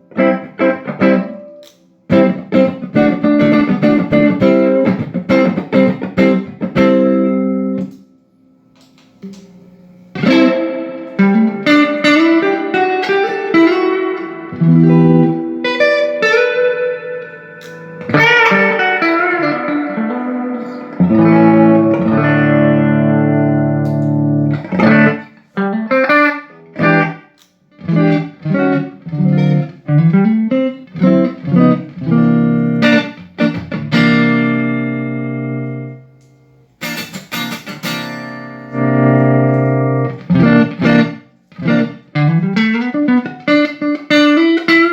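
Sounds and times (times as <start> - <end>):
electric guitar playing: 0.0 - 44.9.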